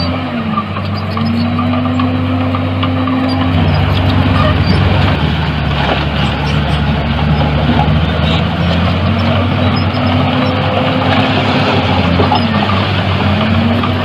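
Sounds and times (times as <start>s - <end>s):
heavy diesel engine under load: 0.0s - 14.0s.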